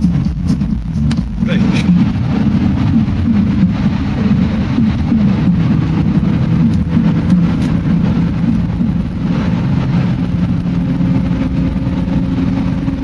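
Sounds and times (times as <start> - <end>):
car engine droning: 0.0 - 13.0
road rumble: 0.0 - 13.0.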